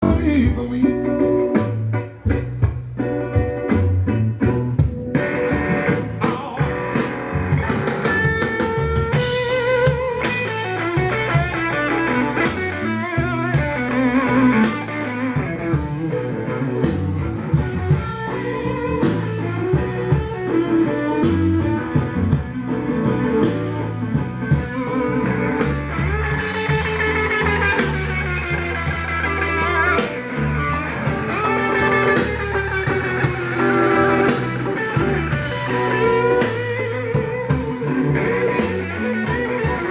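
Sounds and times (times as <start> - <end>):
bass and drums: 0.0 - 39.9
electric guitar blues: 0.0 - 39.9.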